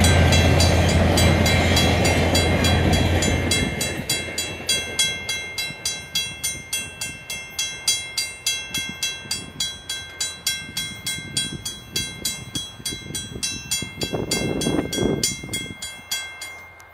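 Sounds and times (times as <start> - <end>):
level crossing warning bell: 0.0 - 16.9.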